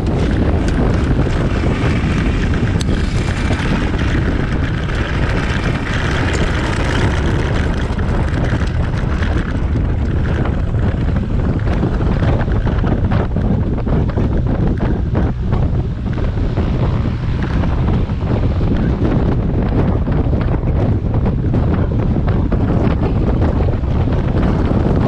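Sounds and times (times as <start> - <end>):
propeller plane engine: 0.0 - 25.0
wind buffeting microphone: 0.0 - 25.0.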